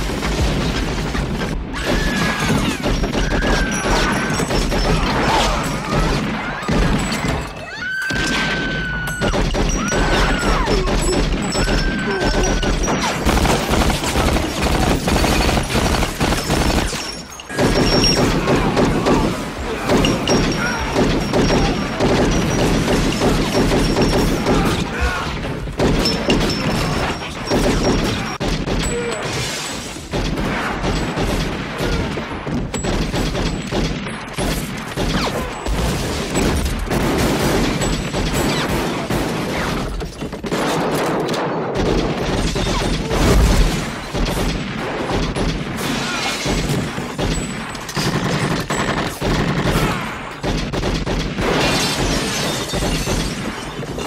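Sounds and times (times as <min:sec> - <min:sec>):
rapid pistol shots: 0:00.0 - 0:07.5, 0:08.1 - 0:54.0.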